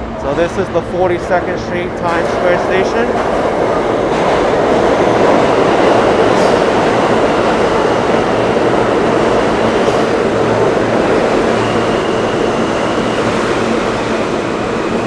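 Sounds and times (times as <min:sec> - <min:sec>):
subway train wheels rumbling on rails: 0:00.0 - 0:15.0.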